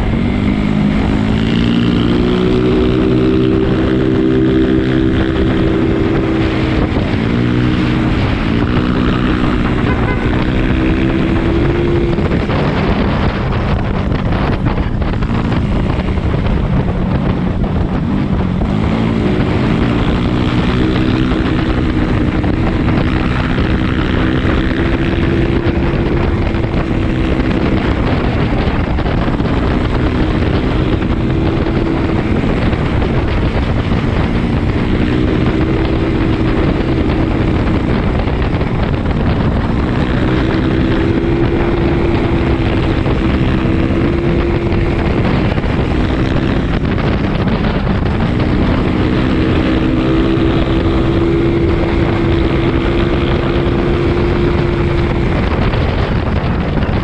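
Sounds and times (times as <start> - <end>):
scooter engine running: 0.0 - 57.0
wind noise on microphone: 0.0 - 57.0.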